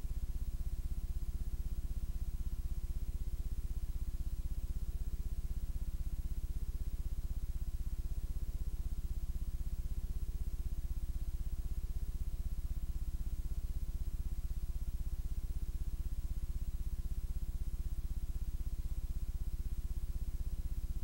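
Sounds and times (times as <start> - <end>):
low electrical hum with pulsing buzz: 0.0 - 21.0.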